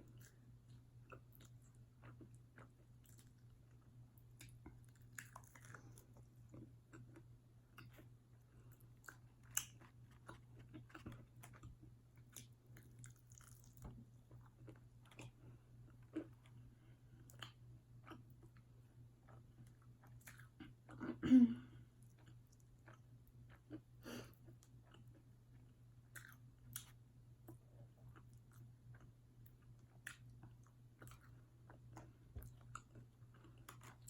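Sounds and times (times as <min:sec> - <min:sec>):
person chewing food: 0:00.0 - 0:21.2, 0:21.9 - 0:34.0
faint low hum: 0:00.0 - 0:34.0.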